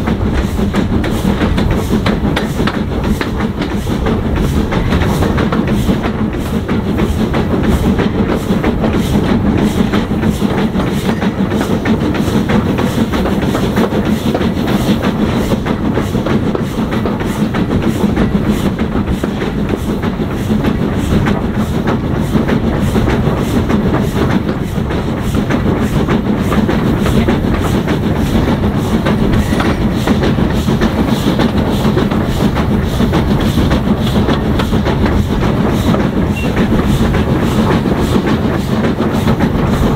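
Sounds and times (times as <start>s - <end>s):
steam train running on rails: 0.0s - 39.9s.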